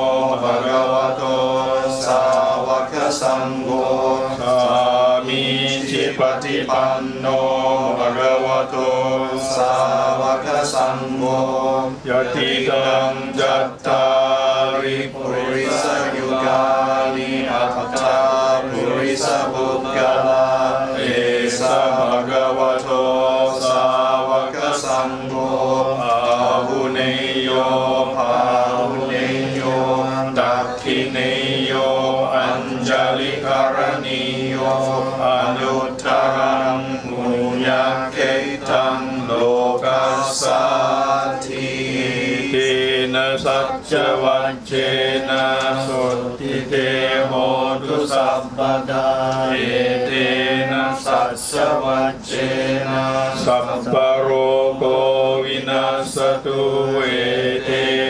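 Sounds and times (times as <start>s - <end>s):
person chanting into a microphone: 0.0s - 58.0s.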